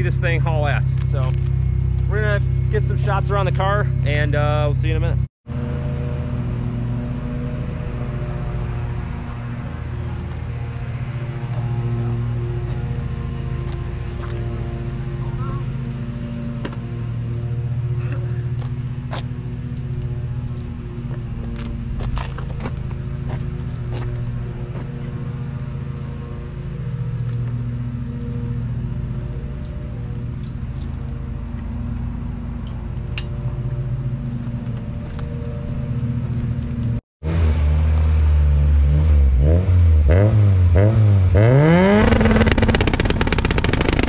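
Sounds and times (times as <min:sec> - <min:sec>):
car engine revving: 0:00.0 - 0:32.7, 0:33.8 - 0:44.0.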